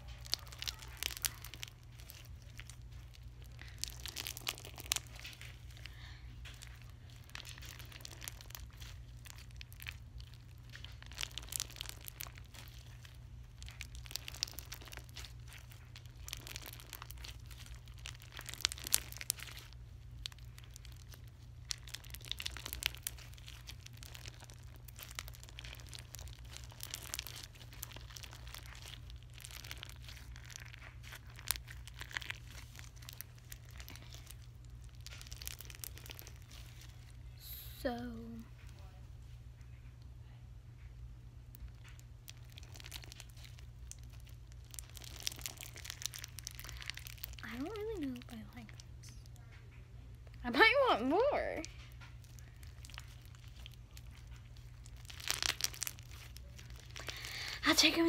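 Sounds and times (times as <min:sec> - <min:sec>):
slime crackling and popping: 0:00.0 - 0:39.0, 0:40.8 - 0:58.0.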